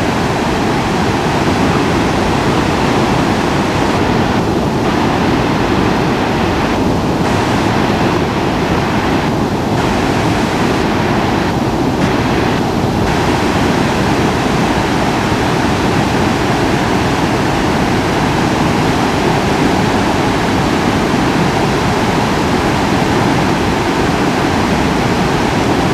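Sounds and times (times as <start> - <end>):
flooded river rushing: 0.0 - 25.9.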